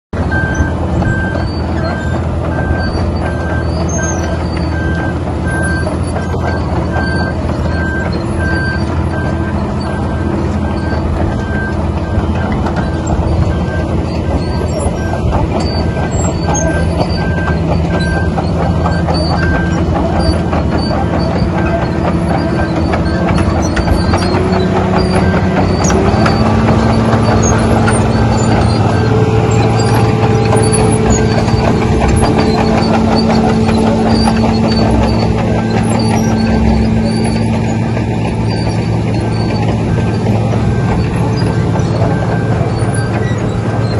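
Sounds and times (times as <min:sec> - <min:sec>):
diesel engine revving: 0:00.2 - 0:43.9.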